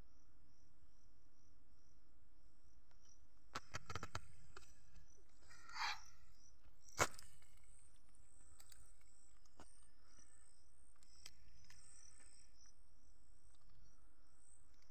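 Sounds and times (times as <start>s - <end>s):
insects chirping: 0.0s - 14.9s.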